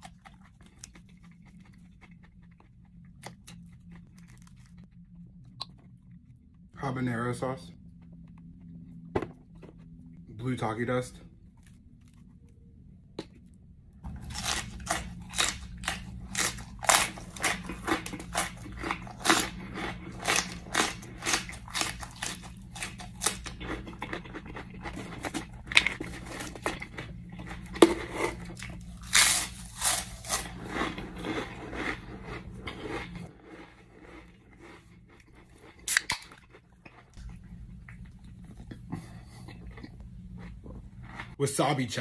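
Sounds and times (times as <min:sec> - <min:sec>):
chili peppers crunched and chewed: 0:00.0 - 0:10.0, 0:10.8 - 0:41.4
steady low hum: 0:00.0 - 0:42.0.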